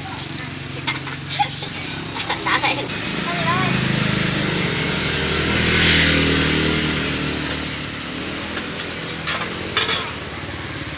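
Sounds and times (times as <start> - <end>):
vehicle engine running: 0.0 - 10.9.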